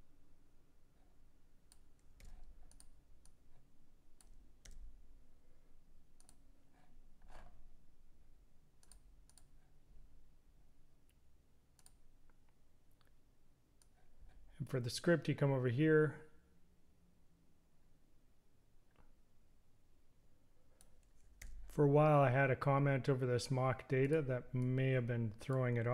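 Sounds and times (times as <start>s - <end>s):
low room hum: 0.0s - 25.9s.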